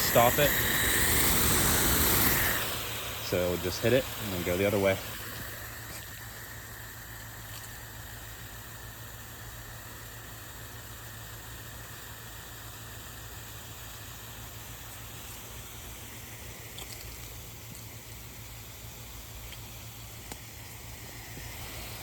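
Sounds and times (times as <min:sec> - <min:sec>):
lawn sprinkler spraying water: 0:00.0 - 0:22.0
low steady hum: 0:00.0 - 0:22.0.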